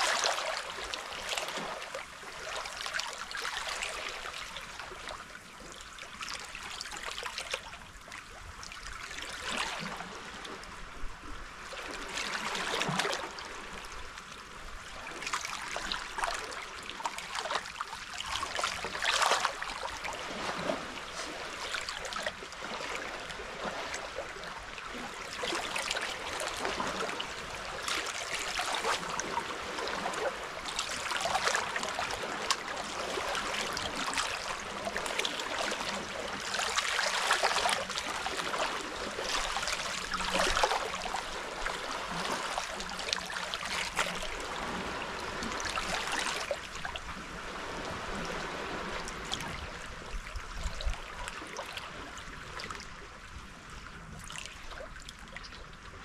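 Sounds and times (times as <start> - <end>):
waves lapping against rocks: 0.0 - 10.7, 11.6 - 56.0.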